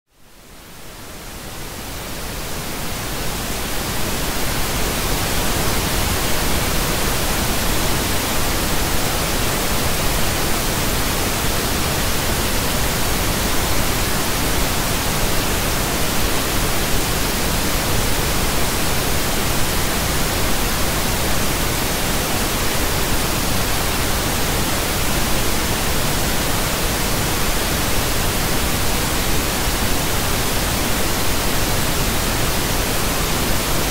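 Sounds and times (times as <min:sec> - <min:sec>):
pink noise hiss: 0:00.2 - 0:33.9.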